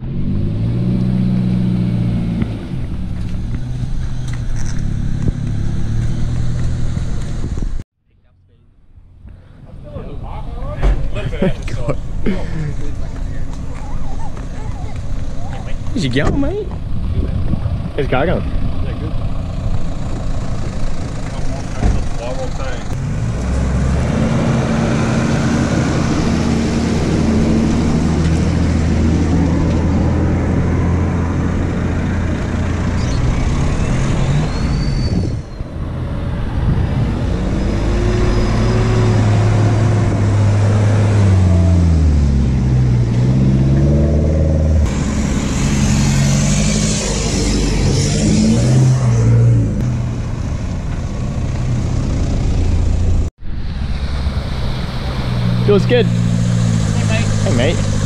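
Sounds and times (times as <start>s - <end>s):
off-road vehicle engine revving: 0.0s - 7.8s, 10.0s - 58.0s.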